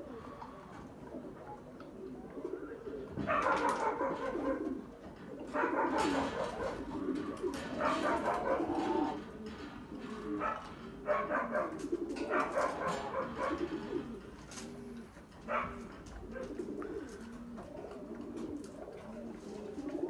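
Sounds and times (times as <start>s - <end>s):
pigeons cooing: 0.0s - 20.0s
puppies crying and scuffling: 3.3s - 19.8s.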